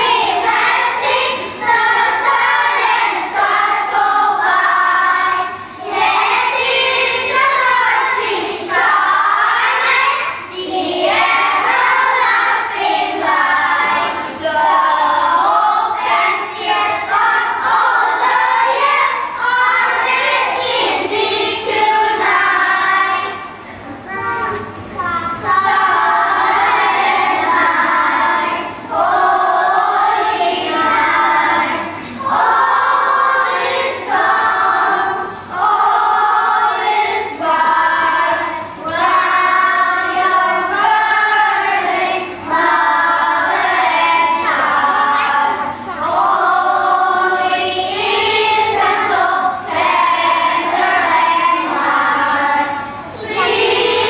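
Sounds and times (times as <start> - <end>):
children singing together: 0.0 - 54.0.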